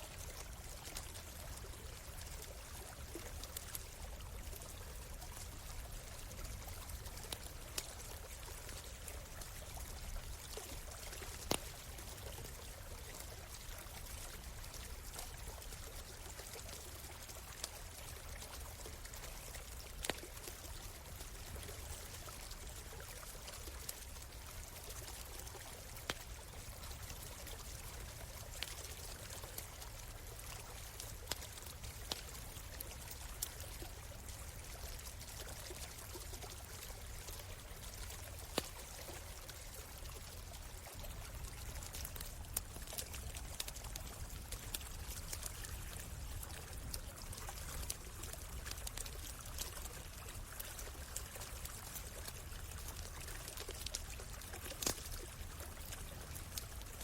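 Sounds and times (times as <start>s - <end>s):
stream running: 0.0s - 57.0s
campfire crackling and popping: 0.2s - 57.0s.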